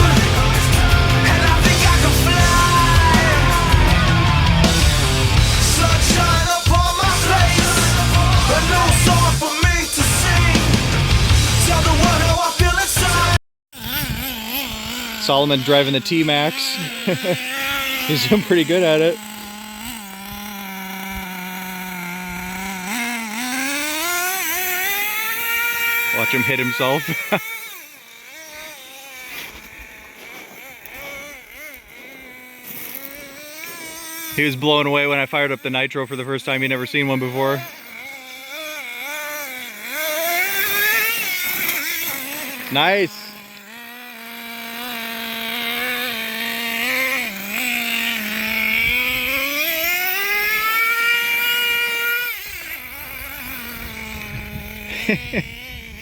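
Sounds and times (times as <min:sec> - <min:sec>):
rc truck engine whining: 0:00.0 - 0:56.0.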